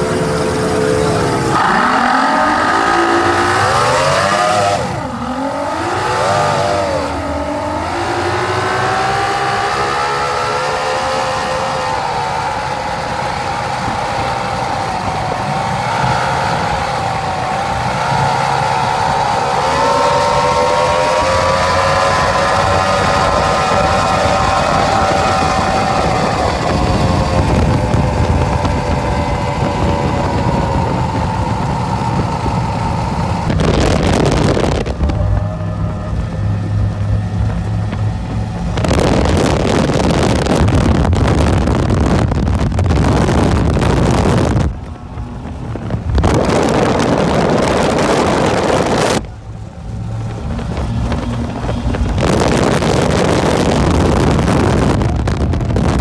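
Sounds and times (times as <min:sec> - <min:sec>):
outboard engines running: 0:00.0 - 0:10.7, 0:11.6 - 0:56.0
wind rush on microphone: 0:00.0 - 0:56.0.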